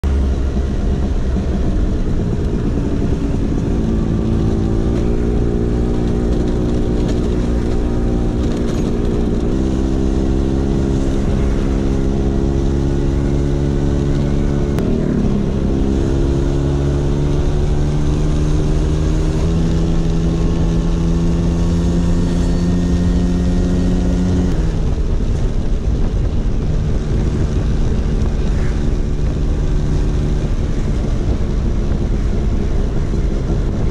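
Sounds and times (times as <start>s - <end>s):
scooter two-stroke engine running: 0.1s - 33.9s.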